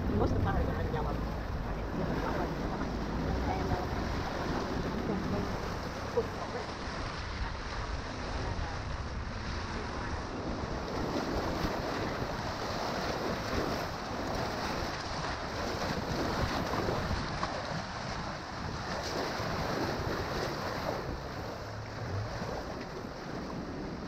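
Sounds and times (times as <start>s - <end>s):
rushing river water: 0.0s - 24.0s
wind buffeting the microphone: 0.0s - 24.0s.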